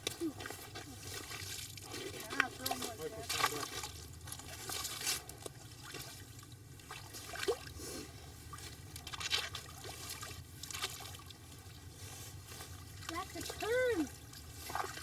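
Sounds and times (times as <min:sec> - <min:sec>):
water and ice sloshing: 0:00.0 - 0:15.0.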